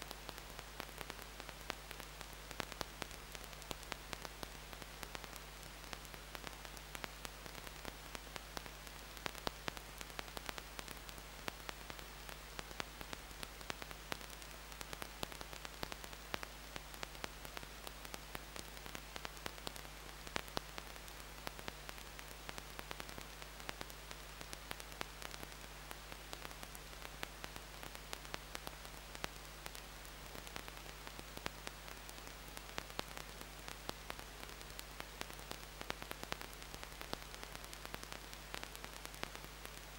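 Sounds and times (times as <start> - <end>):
low mains hum: 0.0 - 39.9
static hiss: 0.0 - 39.9
crackling clicks: 0.1 - 39.9.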